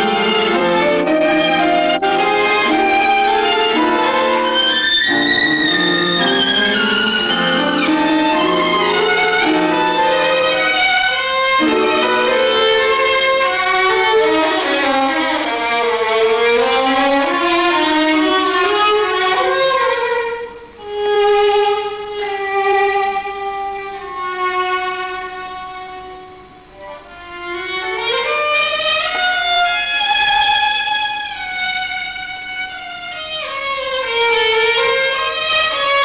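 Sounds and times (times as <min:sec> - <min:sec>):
solo violin melody: 0:00.0 - 0:36.0.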